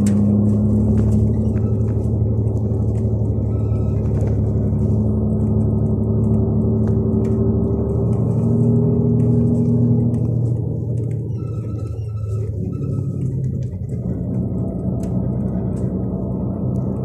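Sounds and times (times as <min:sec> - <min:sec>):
diesel coach engine drone: 0:00.0 - 0:17.0.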